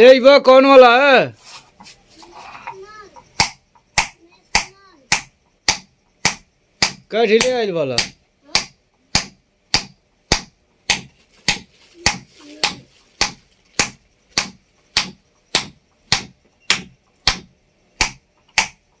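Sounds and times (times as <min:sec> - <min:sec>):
hammer striking chisel on stone: 0:02.6 - 0:19.0.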